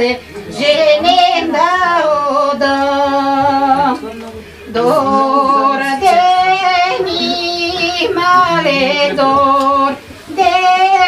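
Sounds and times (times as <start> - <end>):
elderly woman singing: 0.0 - 11.0.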